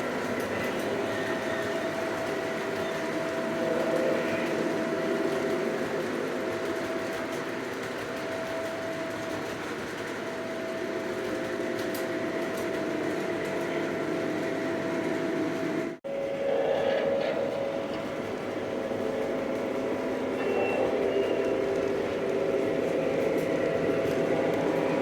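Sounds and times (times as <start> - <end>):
model locomotive motor hum: 0.0 - 25.0.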